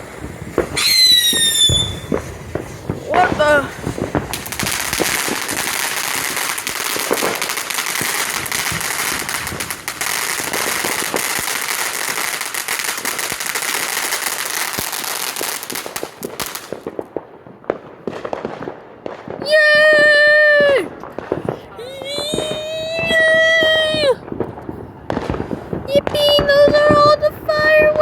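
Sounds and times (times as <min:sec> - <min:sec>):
fireworks crackling and hissing: 0:00.0 - 0:28.0.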